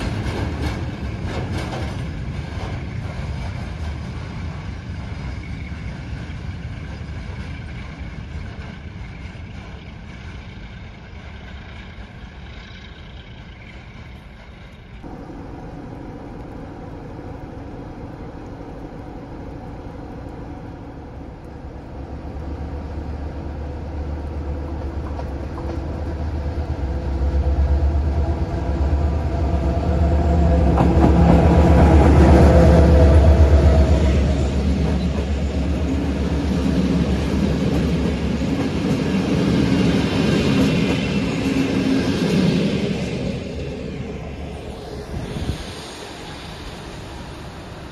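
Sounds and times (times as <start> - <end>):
diesel locomotive engine drone: 0.0 - 47.9
rail noise: 0.0 - 47.9.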